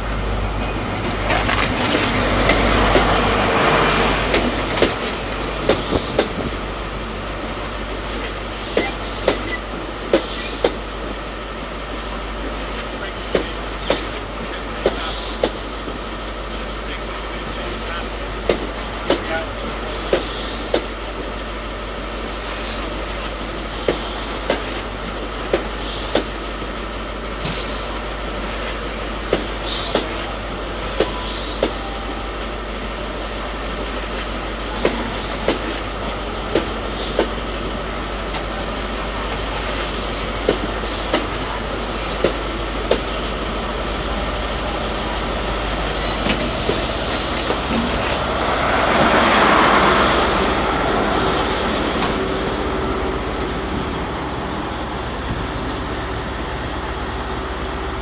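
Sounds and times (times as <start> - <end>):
diesel engine: 0.0 - 58.0.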